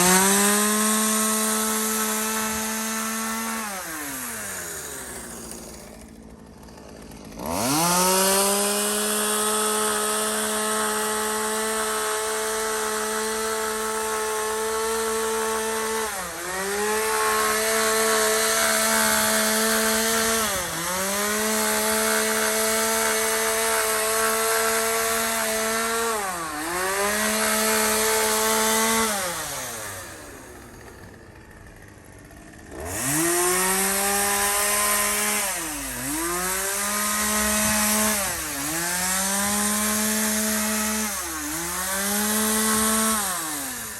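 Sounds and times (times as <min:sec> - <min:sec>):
brush-cutter engine revving: 0:00.0 - 0:43.9.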